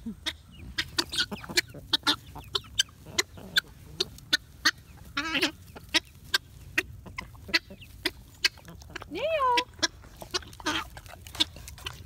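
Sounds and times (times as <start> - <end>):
chicken warbling call: 0.0 - 10.9
chickens clucking: 0.0 - 12.0.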